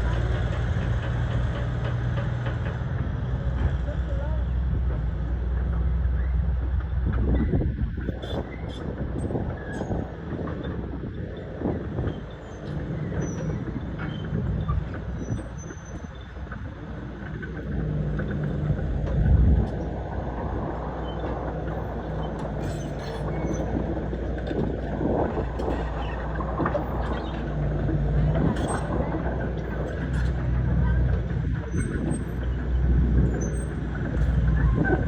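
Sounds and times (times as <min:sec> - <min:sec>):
construction machinery engine running: 0:00.0 - 0:35.0.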